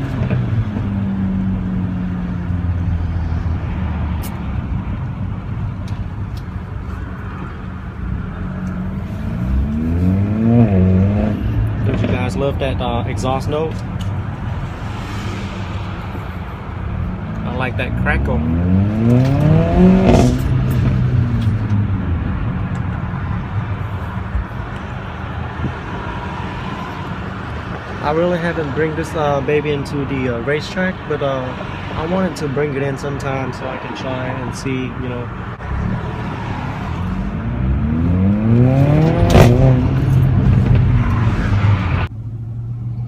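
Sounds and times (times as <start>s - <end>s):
car engine and exhaust: 0.0s - 43.0s.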